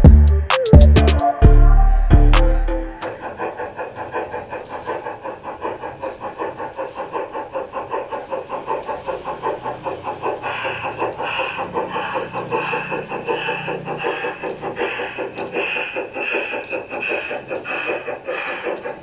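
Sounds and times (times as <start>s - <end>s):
model steam locomotive chuffing: 3.0s - 19.0s.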